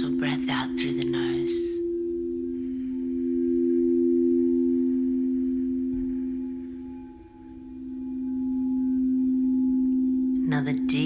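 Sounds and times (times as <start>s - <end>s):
singing bowls ringing: 0.0s - 11.0s.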